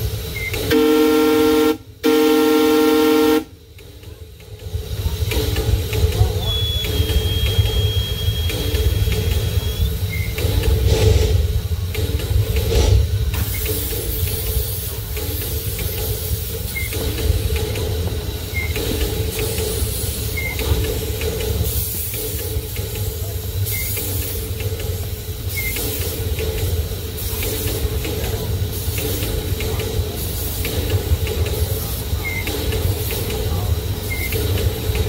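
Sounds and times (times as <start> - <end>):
miniature train rumbling: 0.0 - 35.0
wheels clicking over rail joints: 3.7 - 35.0.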